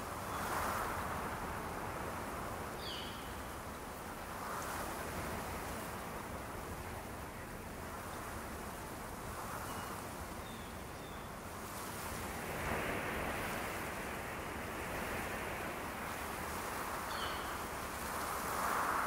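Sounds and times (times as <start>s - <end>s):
wind rushing through pine forest: 0.0s - 19.0s.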